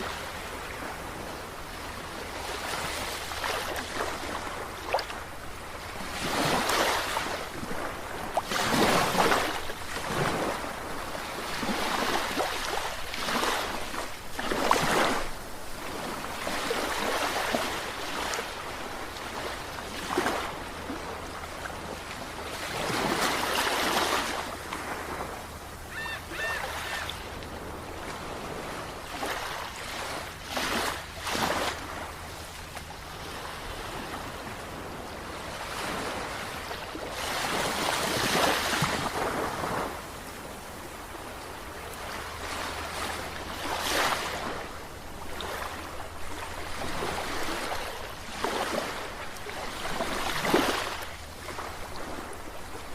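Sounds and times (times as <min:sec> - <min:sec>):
sea waves washing in: 0:00.0 - 0:52.9.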